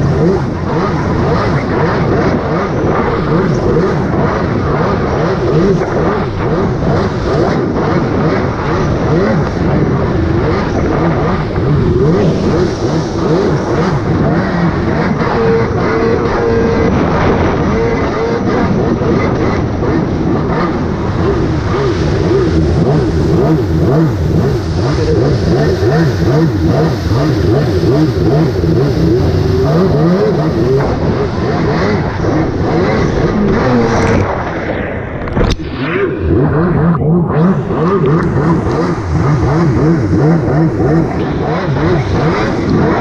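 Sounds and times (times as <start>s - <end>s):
jet ski engine running: 0.0s - 43.0s
steady rushing noise: 0.0s - 43.0s.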